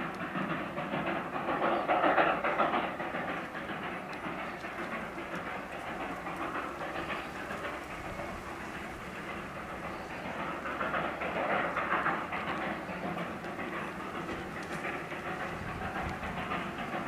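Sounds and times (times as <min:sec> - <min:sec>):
distant steam locomotive: 0:00.0 - 0:17.0.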